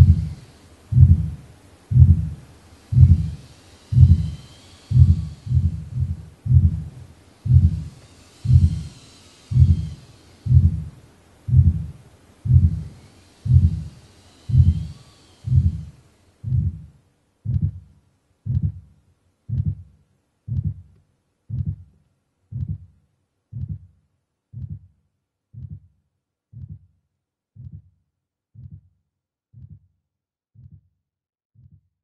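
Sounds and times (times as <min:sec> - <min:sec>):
heartbeat thumps: 0:00.0 - 0:25.9, 0:26.5 - 0:26.9, 0:27.6 - 0:27.9, 0:28.6 - 0:28.9, 0:29.6 - 0:29.9, 0:30.6 - 0:30.9, 0:31.6 - 0:31.9.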